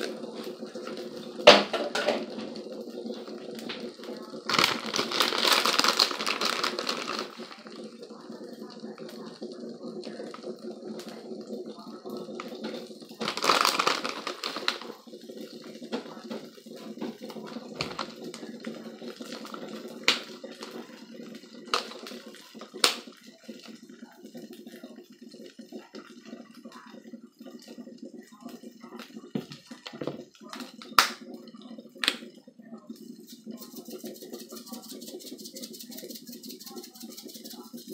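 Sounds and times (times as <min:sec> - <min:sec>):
omelette sizzling: 0:00.0 - 0:37.9.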